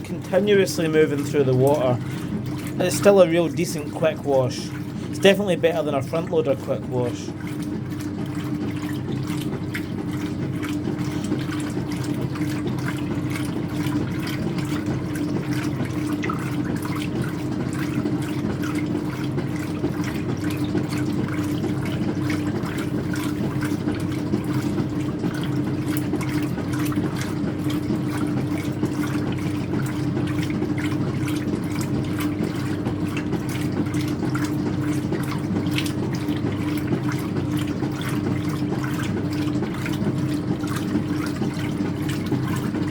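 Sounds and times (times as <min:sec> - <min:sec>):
washing machine hum: 0:00.0 - 0:42.9
washing machine water sloshing: 0:00.0 - 0:42.9.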